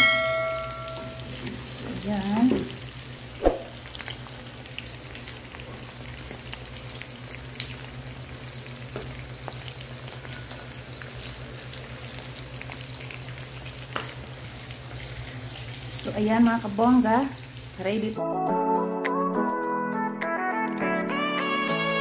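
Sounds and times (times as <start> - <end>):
oil sizzling in a frying pan: 0.0 - 18.2.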